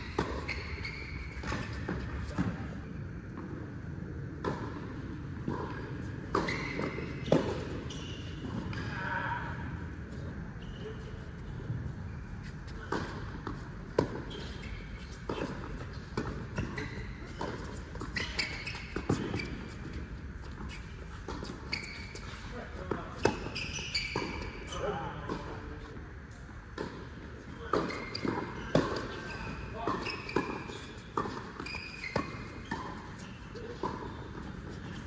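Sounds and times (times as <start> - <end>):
tennis ball bouncing on court: 0.0 - 3.6, 4.4 - 8.9, 12.7 - 24.6, 26.7 - 35.0.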